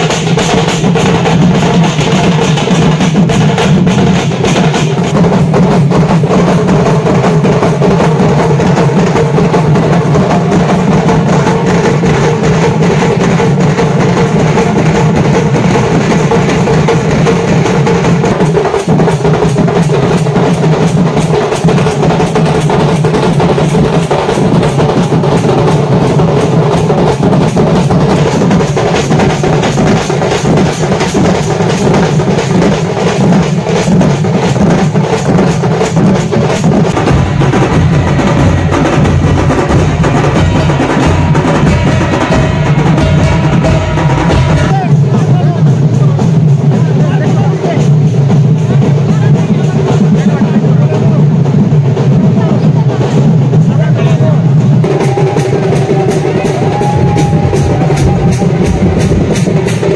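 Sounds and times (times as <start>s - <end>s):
barrel drums beaten with sticks: 0.0s - 59.9s.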